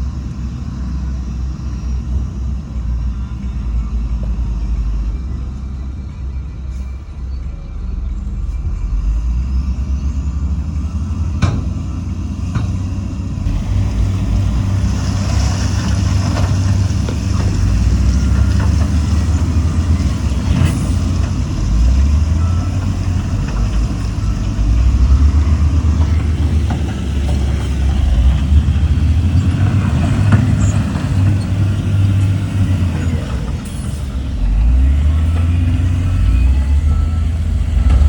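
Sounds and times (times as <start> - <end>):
diesel engine rumble: 0.0 - 38.0.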